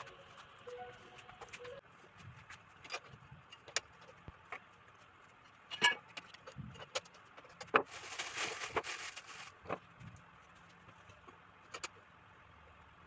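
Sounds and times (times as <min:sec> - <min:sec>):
rasping rustling noise: 0:00.0 - 0:11.3.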